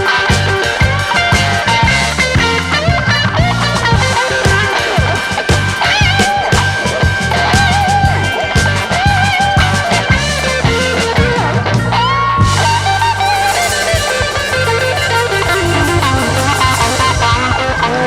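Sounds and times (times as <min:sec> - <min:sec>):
drums keeping a beat: 0:00.0 - 0:18.0
guitar: 0:00.0 - 0:18.0
sustained bass: 0:00.0 - 0:18.0.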